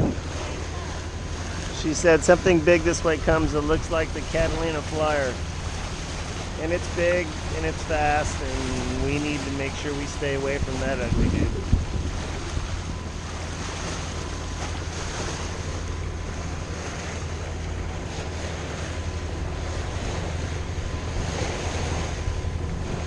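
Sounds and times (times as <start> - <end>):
boat engine drone: 0.0 - 23.0
water rushing along hull: 0.0 - 23.0
wind buffeting microphone: 0.0 - 23.0.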